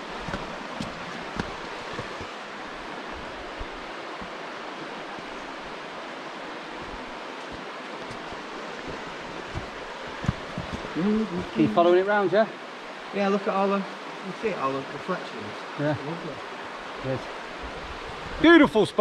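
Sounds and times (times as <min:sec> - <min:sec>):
river flowing over stones: 0:00.0 - 0:19.0.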